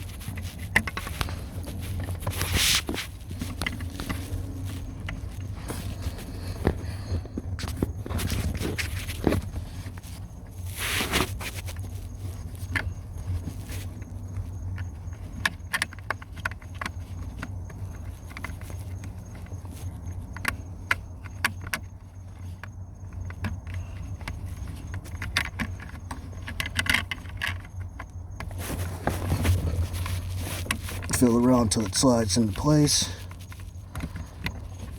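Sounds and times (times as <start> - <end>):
rustling: 0.0 - 34.9
steady low hum: 0.0 - 34.9.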